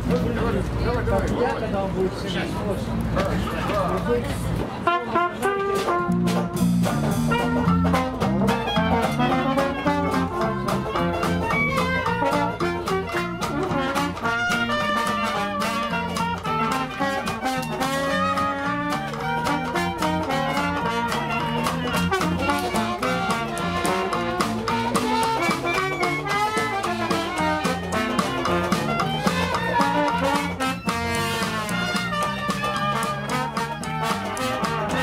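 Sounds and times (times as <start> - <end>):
clarinet: 4.8 - 35.0
trumpet: 4.8 - 35.0
banjo: 4.9 - 35.0
electric guitar: 5.5 - 35.0.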